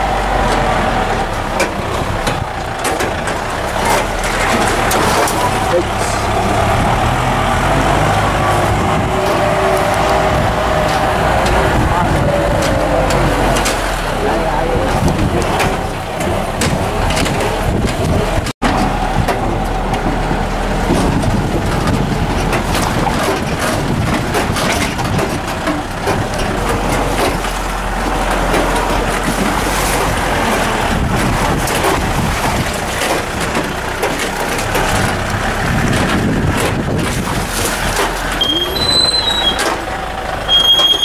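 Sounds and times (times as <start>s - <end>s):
knocks and rattles: 0.0s - 41.0s
vehicle engine and road noise: 0.0s - 41.0s.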